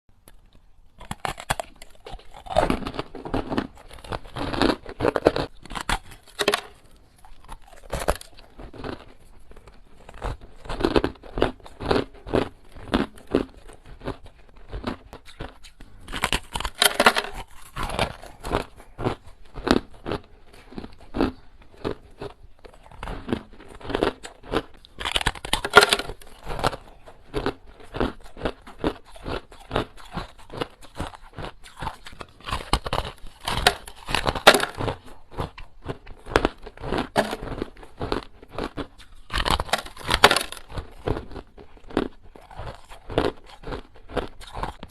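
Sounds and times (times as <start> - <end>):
ice crunching being chewed: 0.2 - 44.9.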